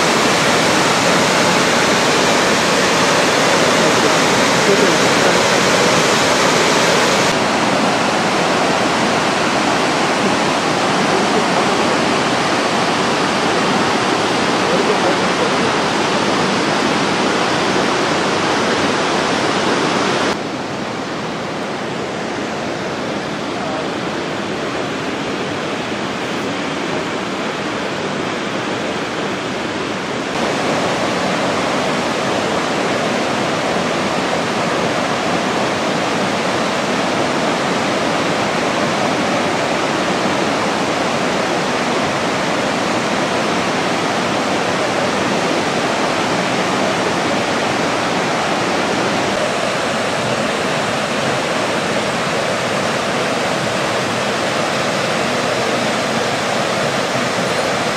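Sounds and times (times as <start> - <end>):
waterfall rushing: 0.0 - 57.9.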